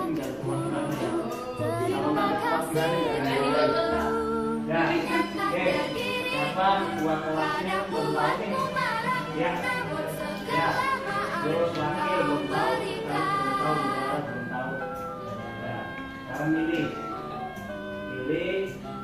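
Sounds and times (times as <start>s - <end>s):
choir singing: 0.0s - 18.8s.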